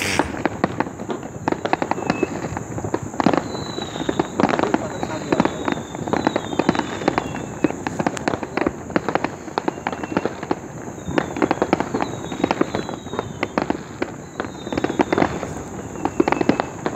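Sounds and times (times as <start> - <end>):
fireworks cracking and popping: 0.0 - 16.9
fireworks falling whistles: 0.0 - 16.9.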